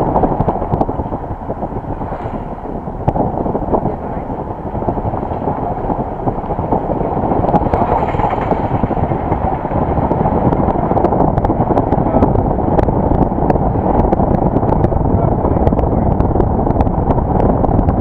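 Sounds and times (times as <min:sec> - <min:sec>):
vehicle road and wind noise: 0:00.0 - 0:18.0.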